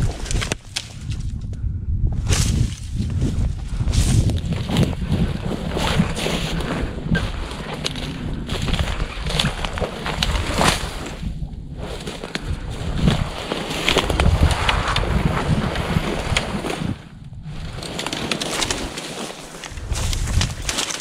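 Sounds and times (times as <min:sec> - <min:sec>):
twigs snapping: 0:00.0 - 0:01.6, 0:03.9 - 0:21.0
wind buffeting microphone: 0:00.0 - 0:20.8
footsteps crunching through snow: 0:02.3 - 0:21.0
grass rustling: 0:02.3 - 0:21.0.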